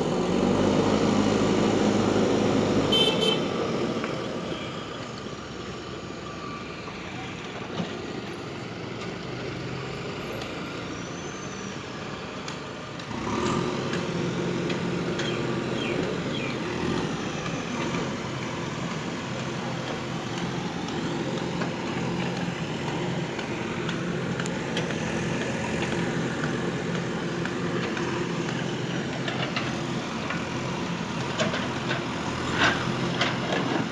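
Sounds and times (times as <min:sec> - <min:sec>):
heavy vehicle engine running: 0:00.0 - 0:33.9.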